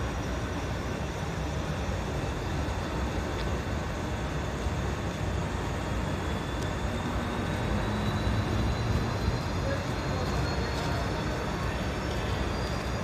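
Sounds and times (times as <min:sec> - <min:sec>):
engine running steadily: 0:00.0 - 0:13.0
faint high whine: 0:00.0 - 0:13.0.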